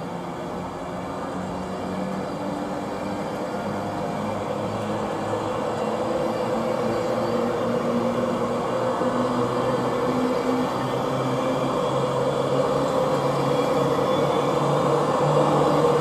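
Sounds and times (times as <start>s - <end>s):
train rumble with low hum: 0.0s - 16.0s.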